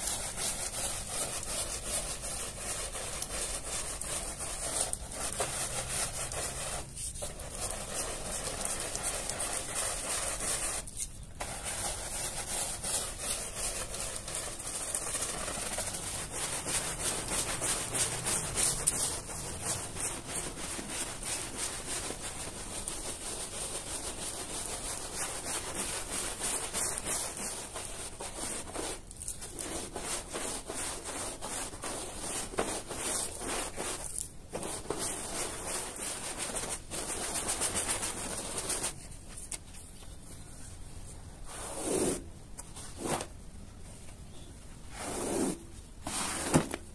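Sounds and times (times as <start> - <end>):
scrub brush scrubbing carpet: 0.0 - 39.0, 41.5 - 42.3.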